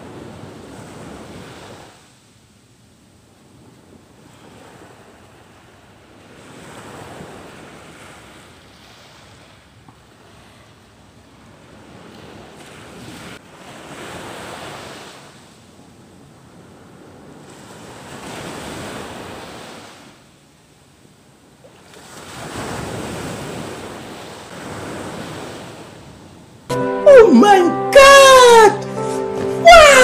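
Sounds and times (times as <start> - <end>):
ocean waves breaking on beach: 0.0 - 30.0.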